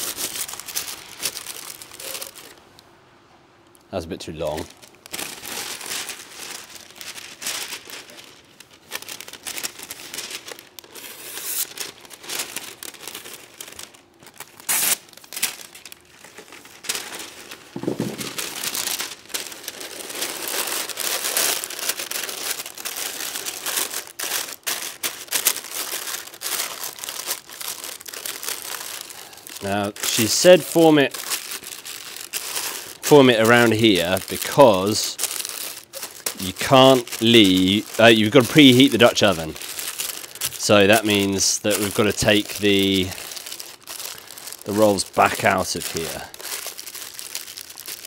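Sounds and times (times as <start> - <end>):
paper crinkling and rustling: 0.0 - 2.6, 4.4 - 48.0.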